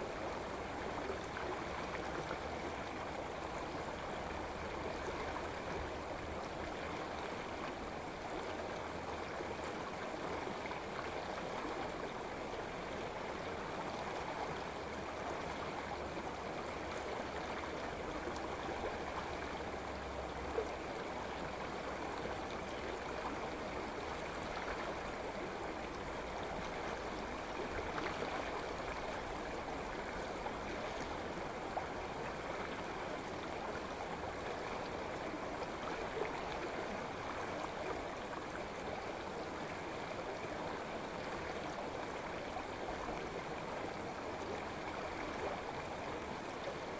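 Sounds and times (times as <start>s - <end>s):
stream running over rocks: 0.0s - 46.9s.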